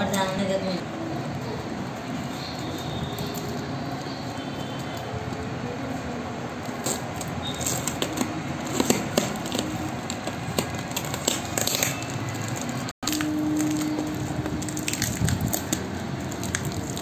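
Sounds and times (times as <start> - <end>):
steady background noise: 0.0 - 17.0
plastic wrap crinkling: 2.0 - 17.0.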